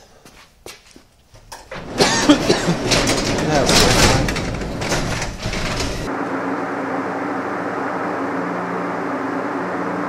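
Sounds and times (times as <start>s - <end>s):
steady machine hum: 1.7s - 10.0s.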